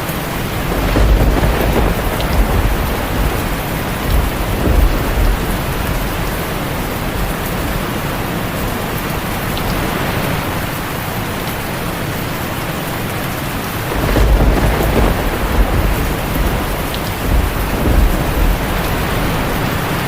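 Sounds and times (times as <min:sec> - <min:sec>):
heavy rain on a tin roof: 0:00.0 - 0:20.0
low rumble of thunder: 0:00.1 - 0:09.9, 0:13.6 - 0:20.0.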